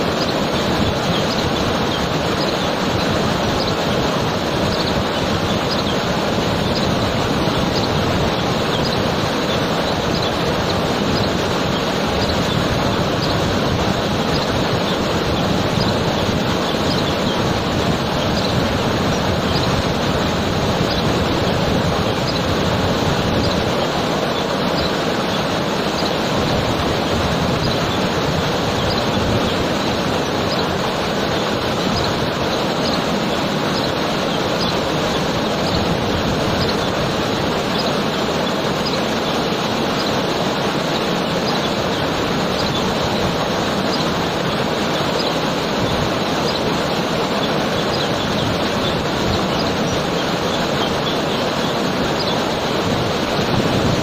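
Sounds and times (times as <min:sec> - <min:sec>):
bird chirping: 0:00.0 - 0:53.9.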